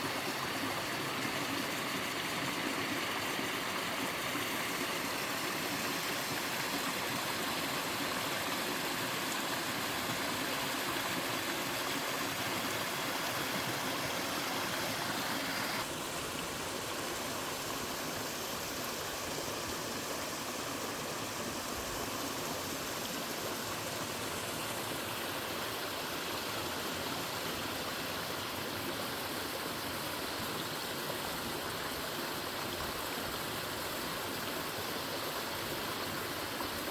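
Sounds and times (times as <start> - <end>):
waterfall and stream rushing: 0.0 - 36.9.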